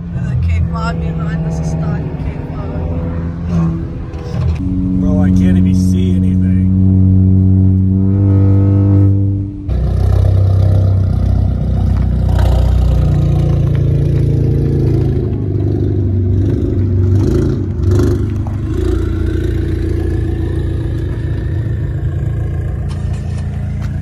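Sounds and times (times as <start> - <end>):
car engine and exhaust running: 0.0 - 24.0.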